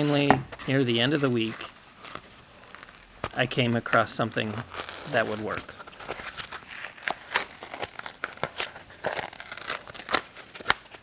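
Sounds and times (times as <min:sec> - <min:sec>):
material crinkling and crackling: 0:00.0 - 0:11.0.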